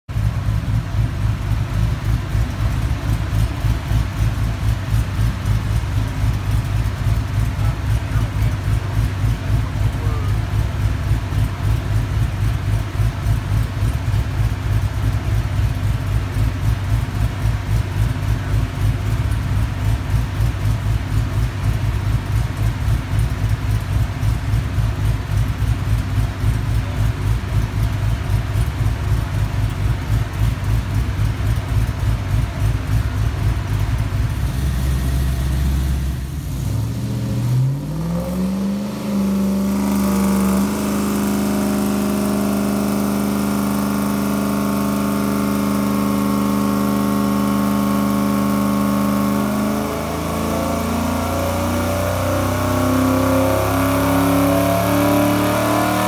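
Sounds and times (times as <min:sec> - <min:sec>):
car engine idling deep rumble: 0:00.1 - 0:56.0.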